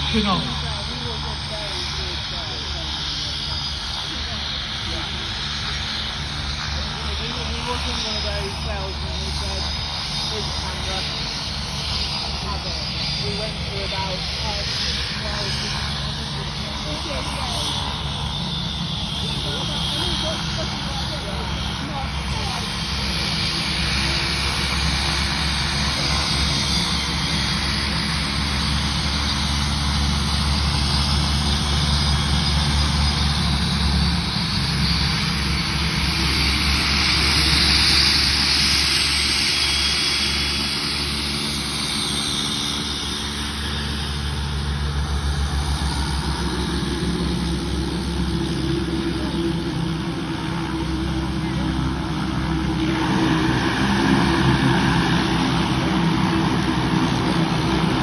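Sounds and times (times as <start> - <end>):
propeller aircraft engine: 0.0 - 58.0.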